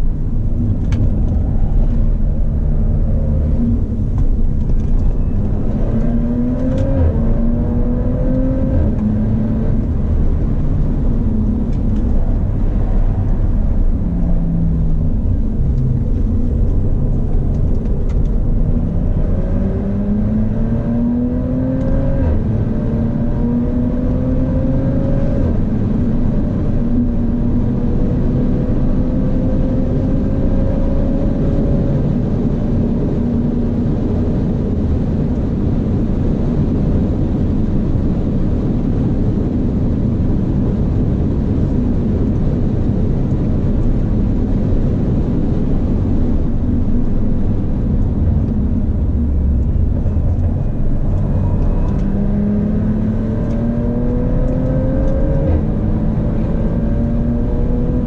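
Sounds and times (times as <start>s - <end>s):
car engine running hard: 0.0s - 58.0s
road and wind noise: 0.0s - 58.0s.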